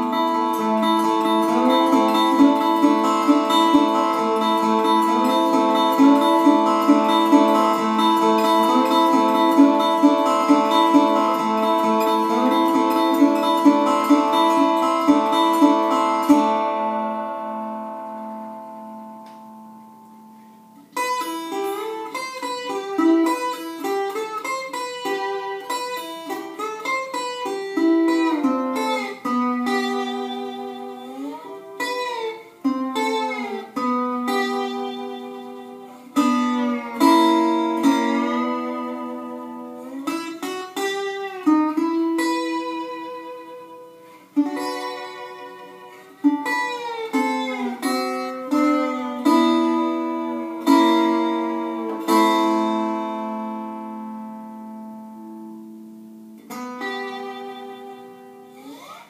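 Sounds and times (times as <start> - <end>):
slide guitar melody: 0.0 - 59.0.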